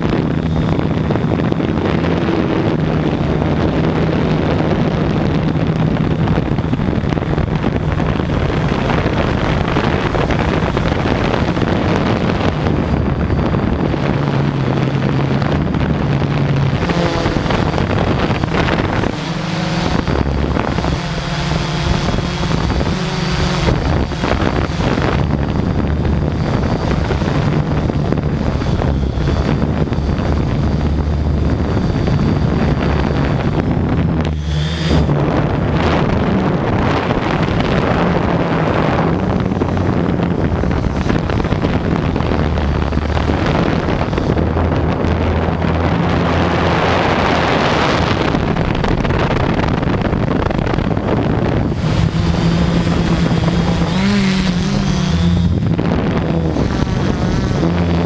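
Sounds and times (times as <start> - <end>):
drone propellers whirring: 0.0 - 58.0
wind on microphone: 0.0 - 58.0.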